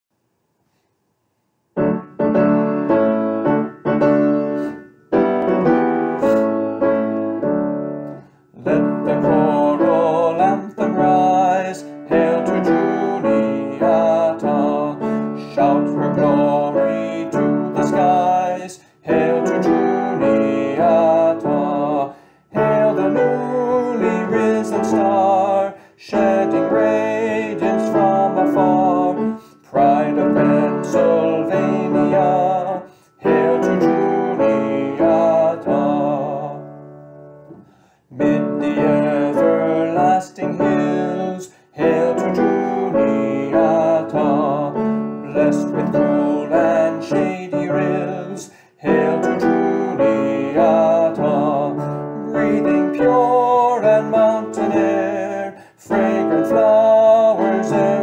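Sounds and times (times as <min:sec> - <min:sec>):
piano playing hymn chords: 0:01.8 - 0:58.0.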